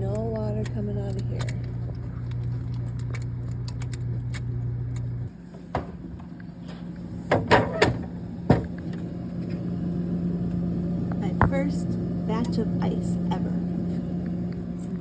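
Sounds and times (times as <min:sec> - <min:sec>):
valve humming: 0:00.0 - 0:15.0.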